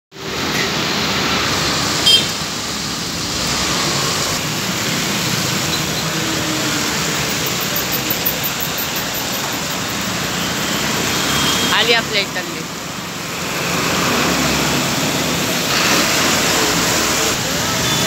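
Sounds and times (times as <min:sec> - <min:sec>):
traffic on wet road: 0:00.1 - 0:18.0.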